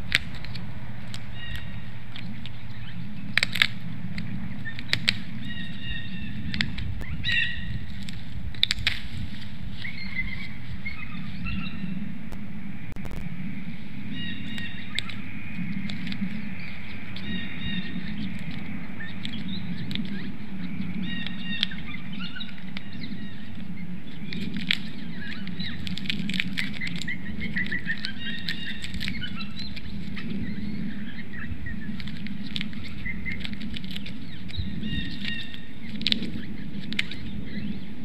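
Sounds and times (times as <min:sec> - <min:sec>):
high bird calls: 0:00.0 - 0:08.8, 0:09.6 - 0:38.0
beak clicks and nest rustles: 0:00.0 - 0:11.4, 0:14.4 - 0:38.0.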